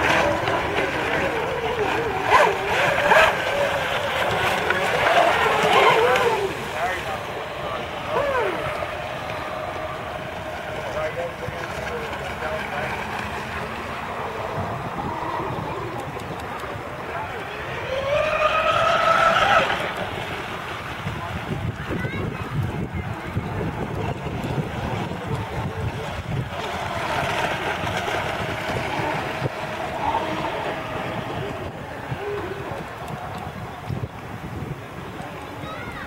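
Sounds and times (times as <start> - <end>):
model boat motor whine: 0.0 - 36.0
rush of wind and water: 0.0 - 36.0.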